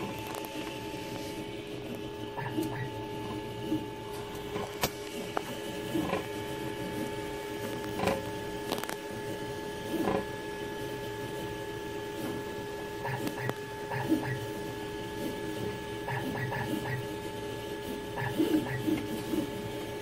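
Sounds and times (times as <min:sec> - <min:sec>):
printer motors whining: 0:00.0 - 0:20.0.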